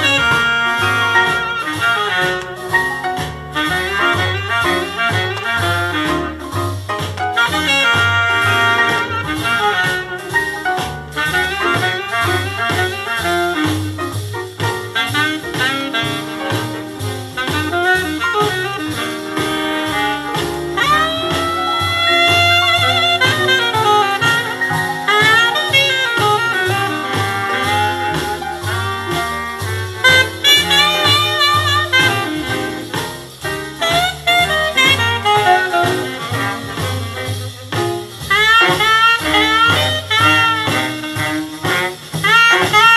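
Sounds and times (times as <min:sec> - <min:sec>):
swing jazz record playing: 0:00.0 - 0:42.9.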